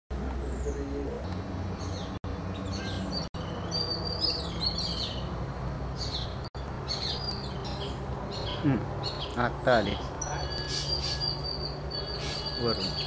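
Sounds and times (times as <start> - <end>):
birds chirping: 0.1 - 13.0.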